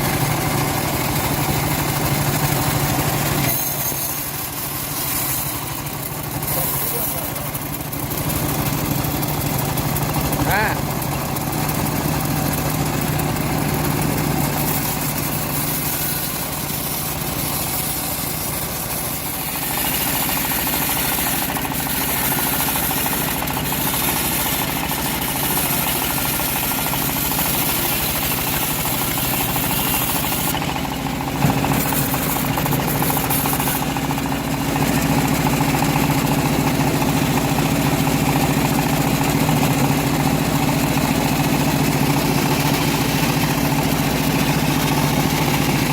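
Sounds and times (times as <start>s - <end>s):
bandsaw sawing a log: 0.0s - 45.9s.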